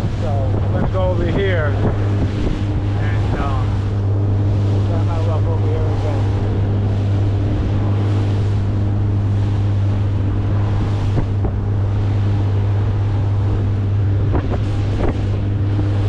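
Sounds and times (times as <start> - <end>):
boat motor running: 0.0 - 16.0
wind buffeting microphone: 0.0 - 16.0.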